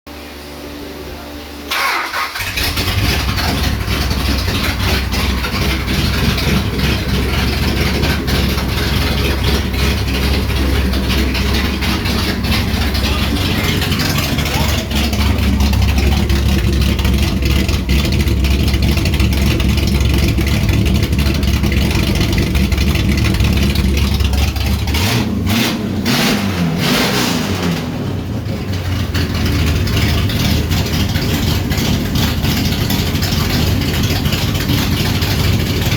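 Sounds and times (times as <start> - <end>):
car engine running: 0.1 - 35.9.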